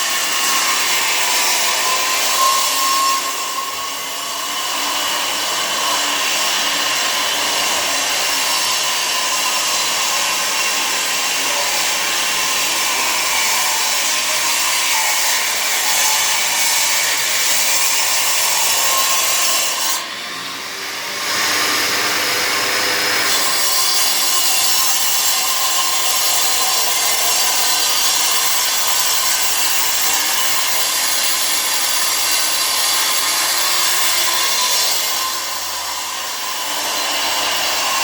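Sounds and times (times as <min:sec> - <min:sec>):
power tool running under load: 0:00.0 - 0:38.0.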